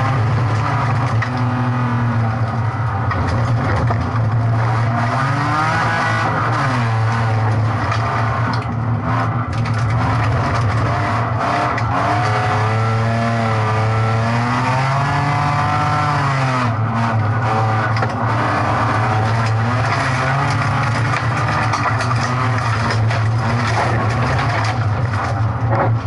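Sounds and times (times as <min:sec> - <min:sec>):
race car engine from inside cabin: 0:00.0 - 0:26.0.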